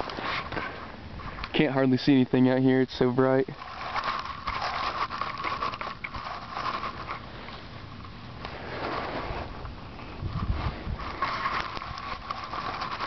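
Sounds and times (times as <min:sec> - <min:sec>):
dry grass rustling: 0:00.0 - 0:13.0.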